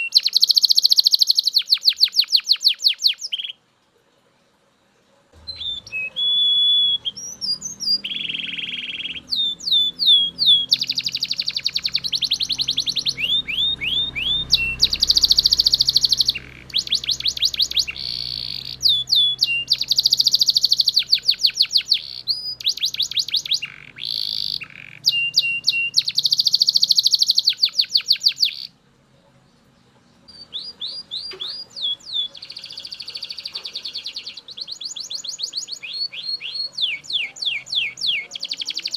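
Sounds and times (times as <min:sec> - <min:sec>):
canary singing trills: 0:00.0 - 0:03.6, 0:05.4 - 0:38.9.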